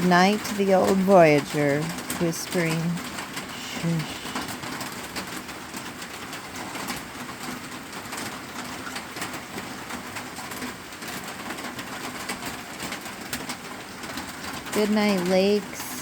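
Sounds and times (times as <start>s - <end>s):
heavy rain on a metal roof: 0.0s - 16.0s.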